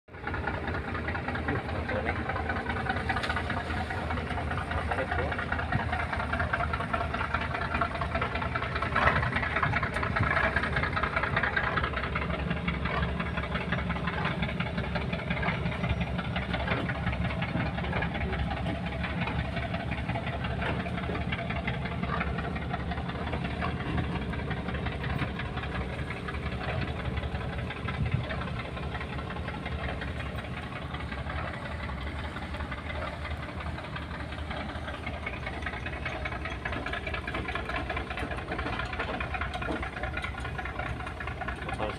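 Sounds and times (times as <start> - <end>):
boat diesel engine rumbling: 0.1 - 41.9.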